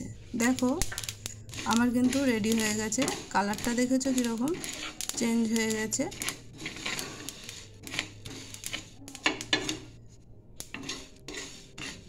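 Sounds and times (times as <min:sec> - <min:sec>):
seeds scraping in a frying pan: 0:00.0 - 0:12.0.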